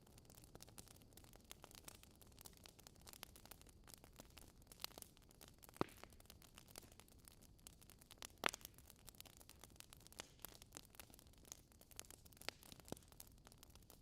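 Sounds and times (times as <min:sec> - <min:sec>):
wood fire popping and snapping: 0:00.0 - 0:14.0.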